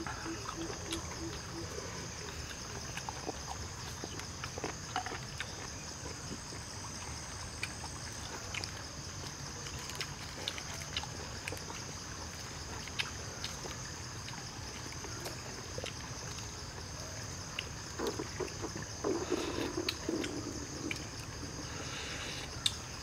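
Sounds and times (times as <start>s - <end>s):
eating sounds: 0.0s - 23.0s
night insects chirring: 0.0s - 23.0s
trickling stream: 0.0s - 23.0s.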